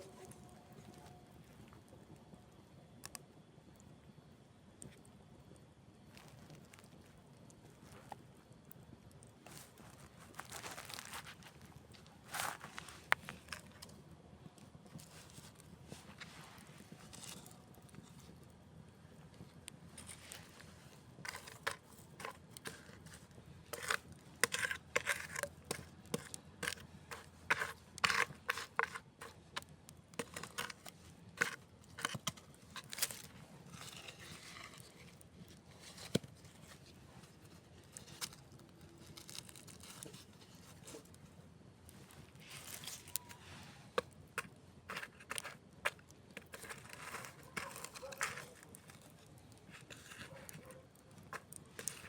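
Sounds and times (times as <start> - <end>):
campfire crackling and popping: 1.0 - 43.4, 44.0 - 52.0.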